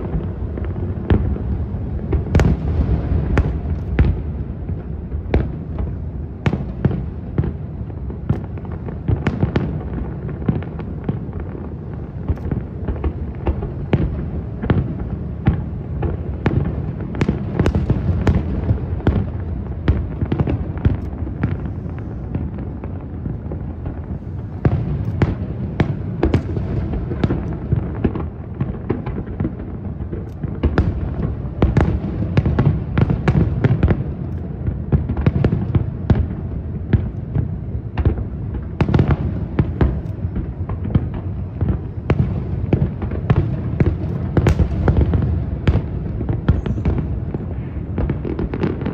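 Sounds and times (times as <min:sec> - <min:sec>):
fireworks cracking: 0:00.0 - 0:48.9.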